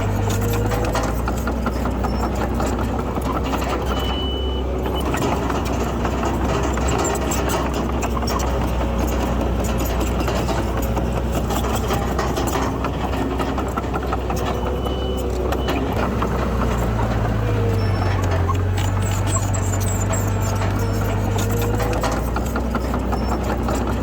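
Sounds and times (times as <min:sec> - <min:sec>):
heavy machinery diesel engines: 0:00.0 - 0:24.0.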